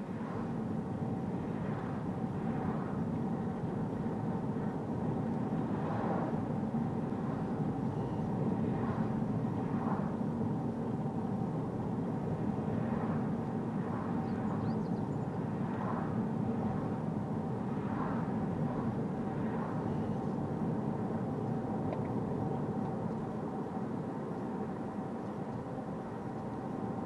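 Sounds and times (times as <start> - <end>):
rushing wind noise: 0.0 - 27.0.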